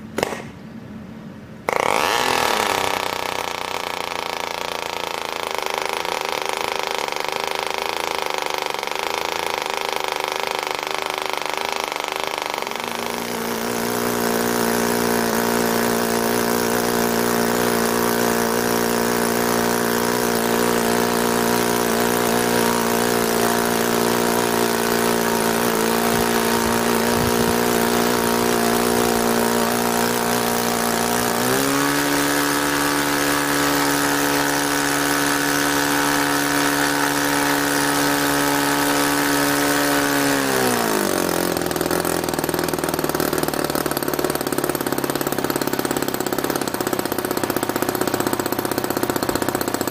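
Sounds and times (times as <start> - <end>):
model engine revving higher: 1.7 - 49.9
small model engine running: 1.7 - 49.9.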